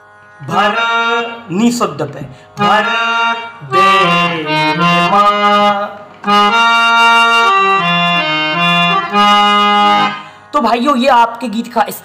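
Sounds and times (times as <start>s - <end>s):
harmonium melody: 0.0s - 12.0s.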